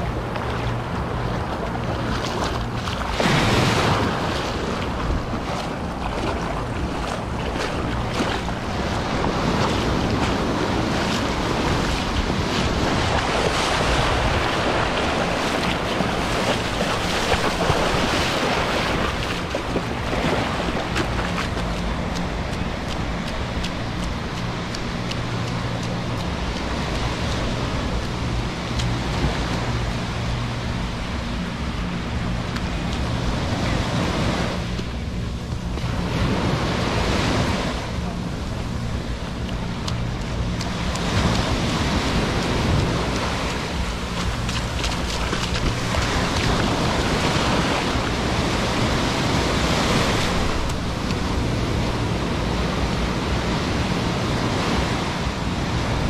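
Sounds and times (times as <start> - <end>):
waves washing on beach: 0.0 - 56.0
wind buffeting microphone: 0.0 - 56.0.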